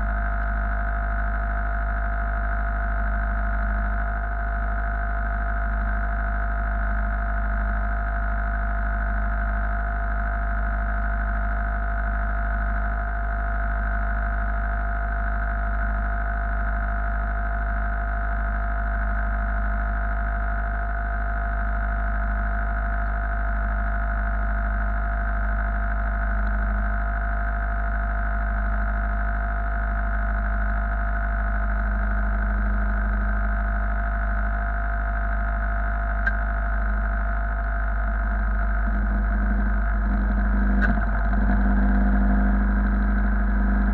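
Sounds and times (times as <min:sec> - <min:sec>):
machine engine drone: 0:00.0 - 0:43.9.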